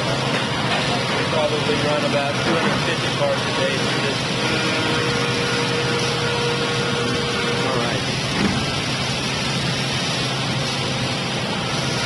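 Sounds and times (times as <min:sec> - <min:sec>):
thin steady whine: 0:00.0 - 0:12.0
woodworking machinery: 0:00.0 - 0:12.0.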